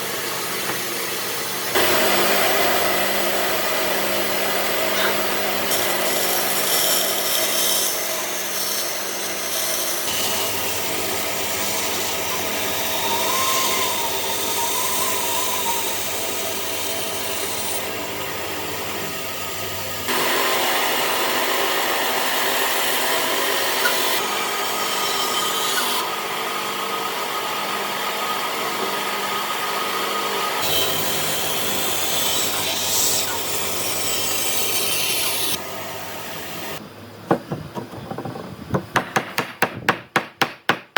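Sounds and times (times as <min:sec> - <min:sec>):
woodworking tools cutting wood: 0:00.0 - 0:26.5, 0:29.8 - 0:40.9.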